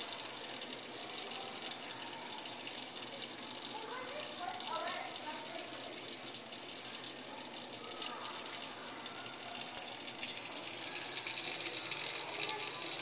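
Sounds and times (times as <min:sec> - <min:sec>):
faucet running into metal sink: 0:00.0 - 0:13.0.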